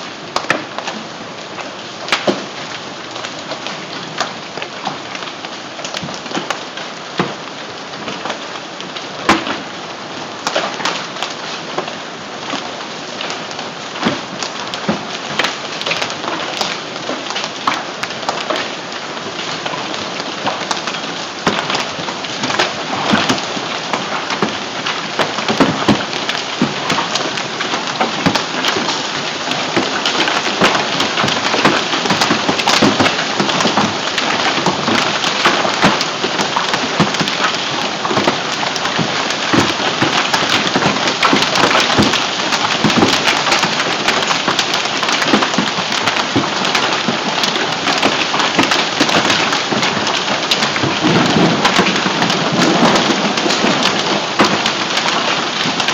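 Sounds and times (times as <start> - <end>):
hail and rain pelting down: 0.0 - 55.9.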